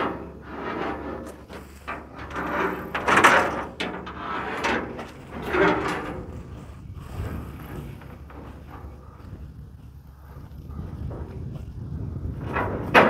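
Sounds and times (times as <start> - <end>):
knocks and rattles in metal trailer: 0.0 - 9.2, 11.0 - 13.0.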